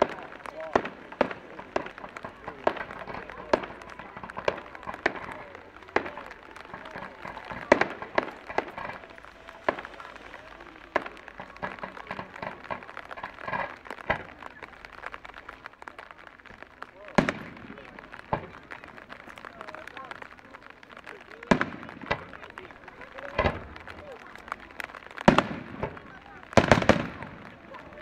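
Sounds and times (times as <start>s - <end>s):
fireworks bursting with echo: 0.0s - 28.0s.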